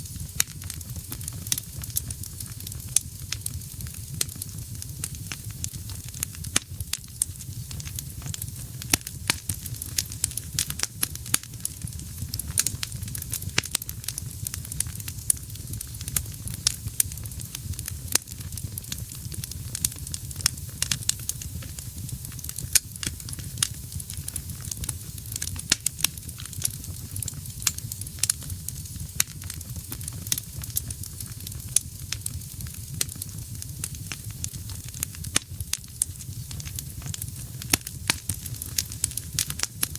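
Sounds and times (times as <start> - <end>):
burning wood crackling and popping: 0.0 - 39.9
fire rumbling: 0.0 - 39.9.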